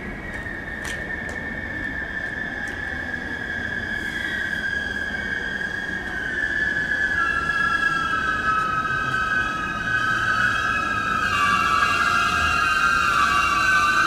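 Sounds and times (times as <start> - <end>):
electric train whine: 0.0 - 14.0.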